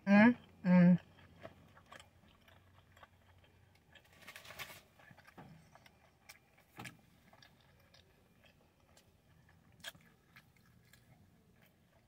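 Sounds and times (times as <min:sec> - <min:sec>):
chewing with mouth clicks: 0:00.4 - 0:12.0.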